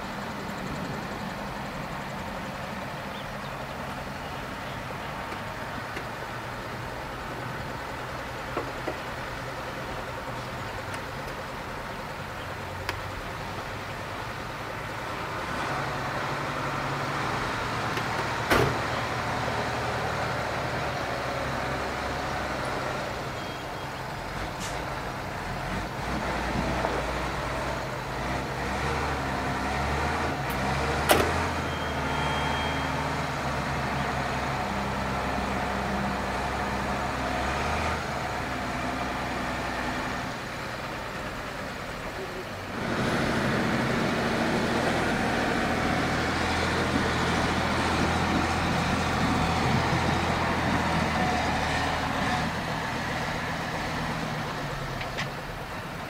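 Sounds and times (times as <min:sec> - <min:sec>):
diesel truck engine pulling: 0:00.0 - 0:56.0.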